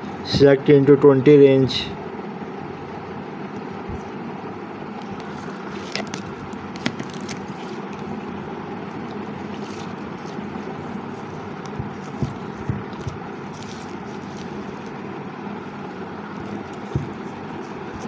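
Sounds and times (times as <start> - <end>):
mechanical background hum: 0.0 - 18.0.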